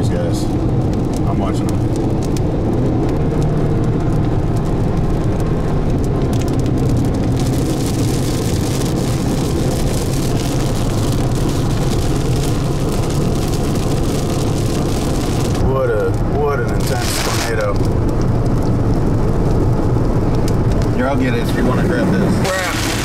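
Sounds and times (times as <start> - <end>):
engine and tyre rumble: 0.0 - 23.0.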